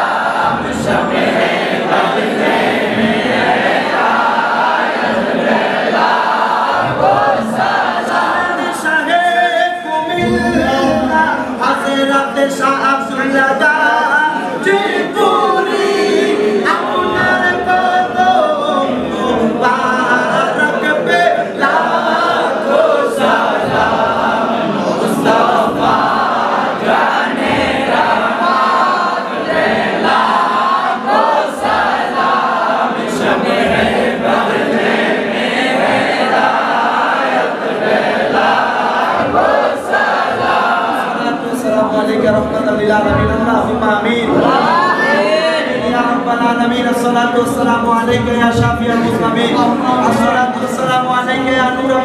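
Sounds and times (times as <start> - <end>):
men singing along: 0.0 - 52.0.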